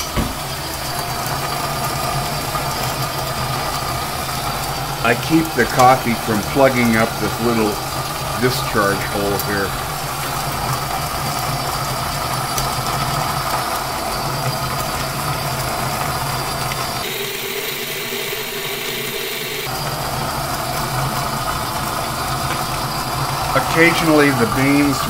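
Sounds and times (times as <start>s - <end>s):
coffee grinder motor running: 0.0s - 25.0s.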